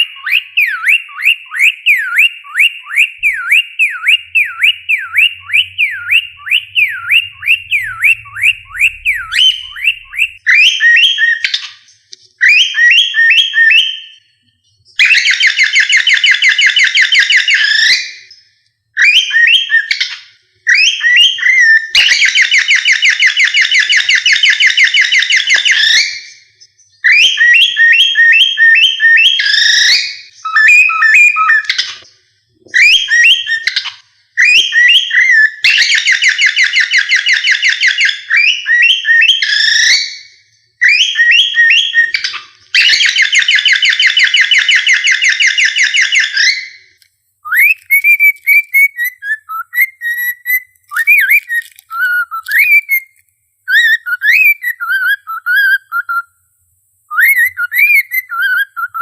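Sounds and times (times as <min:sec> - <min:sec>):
cockatiel whistling and warbling: 0:00.0 - 0:14.2, 0:15.0 - 0:18.4, 0:19.0 - 0:32.0, 0:32.8 - 0:46.8, 0:47.4 - 0:56.3, 0:57.1 - 0:59.0.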